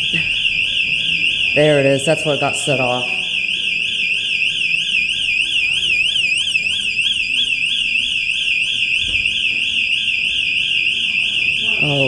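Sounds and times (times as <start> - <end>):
electronic alarm warbling: 0.0 - 12.0.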